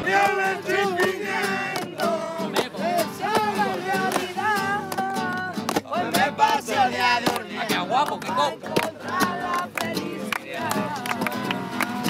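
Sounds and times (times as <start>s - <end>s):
woman singing: 0.0s - 7.7s, 8.4s - 12.0s
acoustic guitar strumming: 0.0s - 12.0s.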